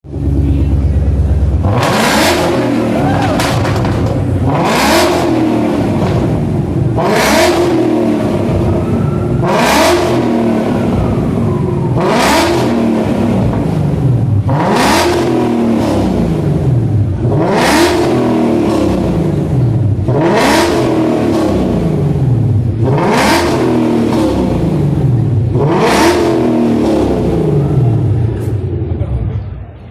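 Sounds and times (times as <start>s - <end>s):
car engine revving: 0.1s - 29.2s.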